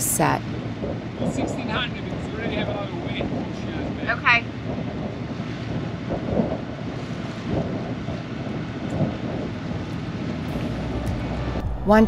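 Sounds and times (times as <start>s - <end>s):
boat engine running low: 0.0s - 12.0s
wind buffeting microphone: 0.0s - 12.0s
water washing past hull: 0.5s - 12.0s.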